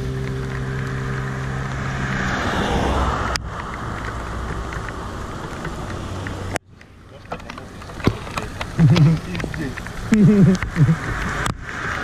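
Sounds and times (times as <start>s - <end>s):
steady engine hum: 0.0s - 12.0s
vehicle swishing past: 0.0s - 12.0s.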